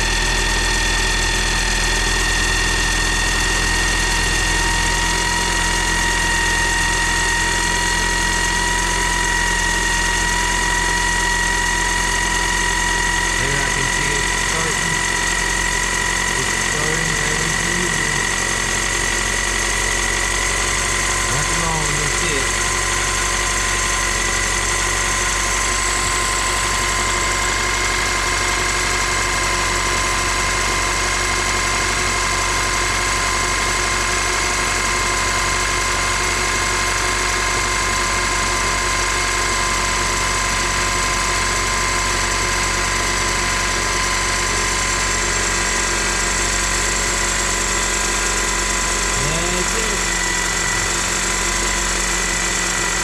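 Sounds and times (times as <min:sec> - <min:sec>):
car engine idling: 0:00.0 - 0:53.0
high engine whine: 0:00.0 - 0:53.0.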